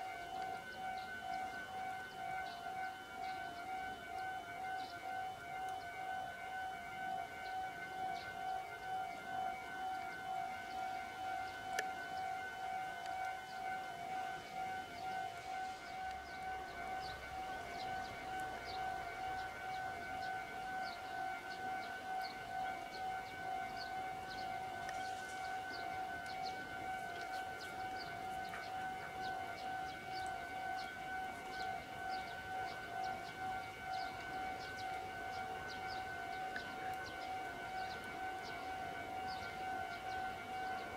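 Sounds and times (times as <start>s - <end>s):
two-pitch electronic warning alarm: 0.0s - 40.9s.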